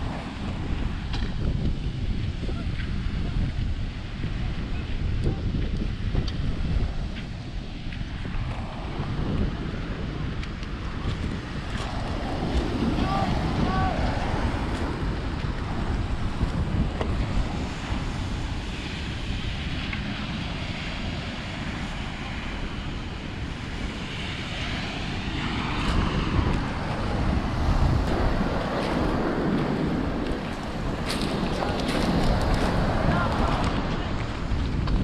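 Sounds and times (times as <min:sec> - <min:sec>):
ocean waves on shore: 0:00.0 - 0:35.0
wind buffeting microphone: 0:00.0 - 0:35.0.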